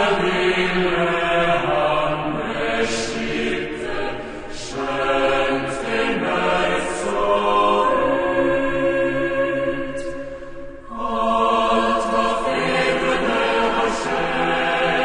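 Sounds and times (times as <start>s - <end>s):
choral chant-like voices: 0.0s - 15.0s.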